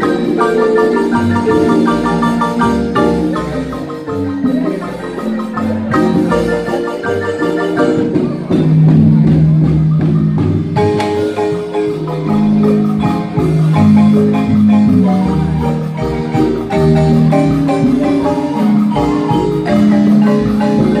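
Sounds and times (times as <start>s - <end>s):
marimba ensemble playing: 0.0s - 21.0s.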